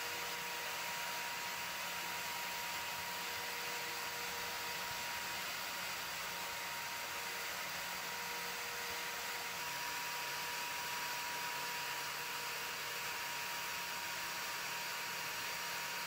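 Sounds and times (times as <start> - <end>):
drill motor whine: 0.0 - 16.0.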